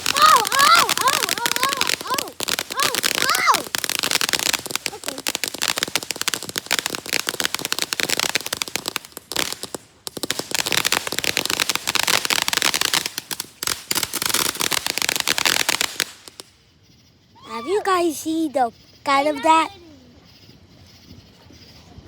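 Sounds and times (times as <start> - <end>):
fireworks crackling: 0.0 - 16.8, 17.4 - 20.0.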